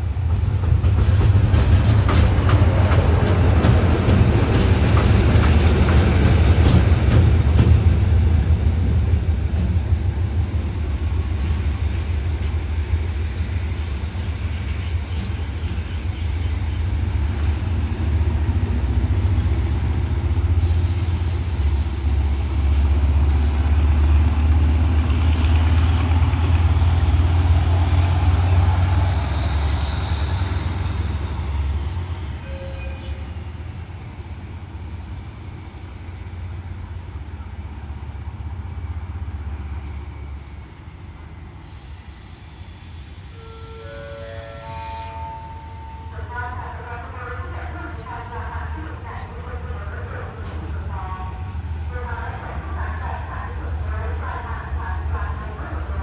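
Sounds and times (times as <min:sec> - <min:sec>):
diesel train engine rumbling: 0:00.0 - 0:56.0.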